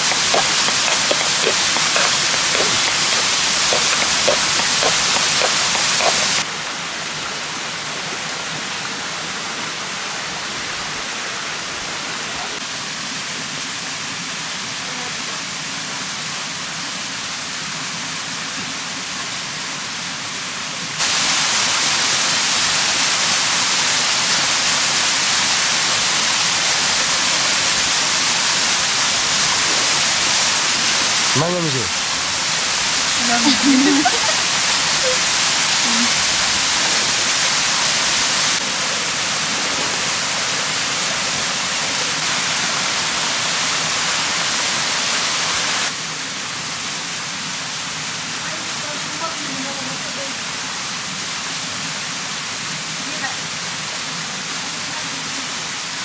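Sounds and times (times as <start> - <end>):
stream running water: 0.0 - 56.0.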